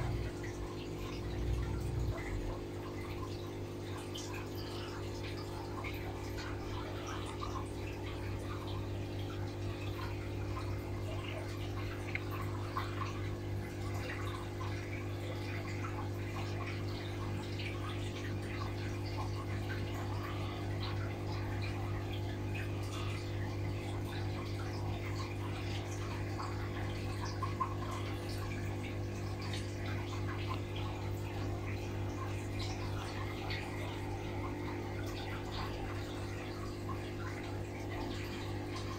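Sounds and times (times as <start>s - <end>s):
air bubbles gurgling and popping: 0.0s - 38.9s
aquarium air pump humming: 0.0s - 38.9s.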